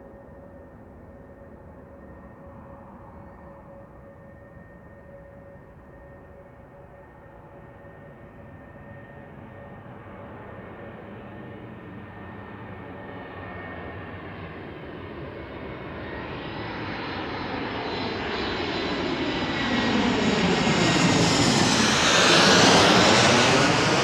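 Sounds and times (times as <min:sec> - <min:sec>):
jet engine roar with whine: 0:00.0 - 0:24.0.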